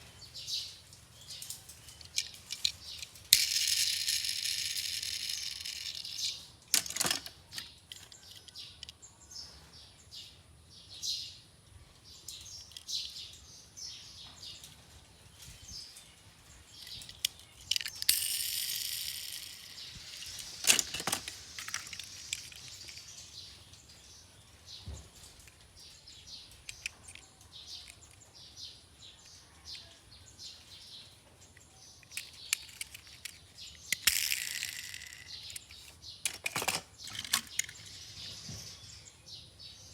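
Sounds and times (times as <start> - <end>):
toy cars clicking and rattling: 0.5 - 9.1, 12.3 - 13.4, 15.7 - 38.6.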